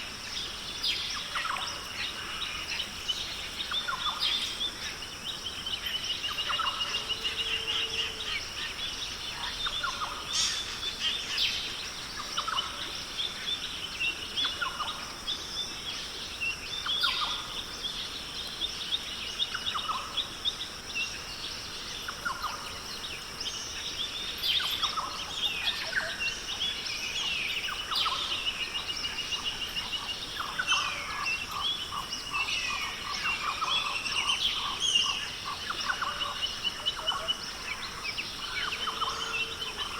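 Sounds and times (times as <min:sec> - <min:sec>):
birds calling and chirping: 0:00.0 - 0:39.9
insects droning: 0:00.0 - 0:39.9.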